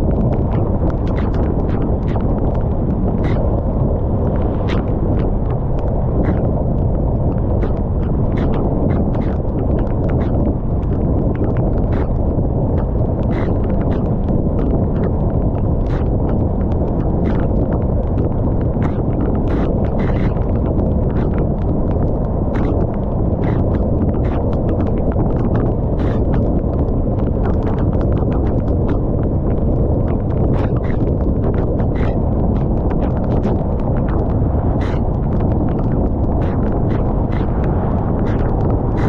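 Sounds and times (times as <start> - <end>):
deep steady rumble: 0.0 - 39.0
raindrops ticking on a surface: 0.0 - 39.0.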